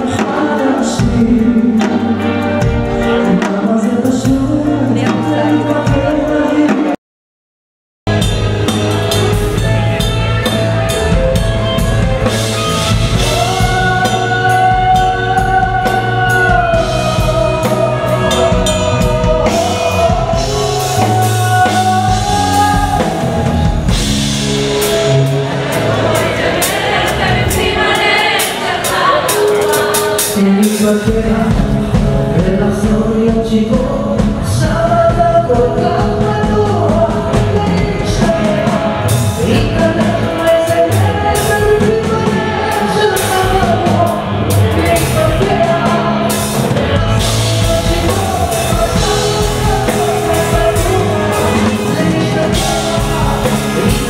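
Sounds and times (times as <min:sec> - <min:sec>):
live band playing: 0:00.0 - 0:07.0, 0:08.1 - 0:54.0
person singing: 0:00.0 - 0:07.0, 0:11.1 - 0:54.0.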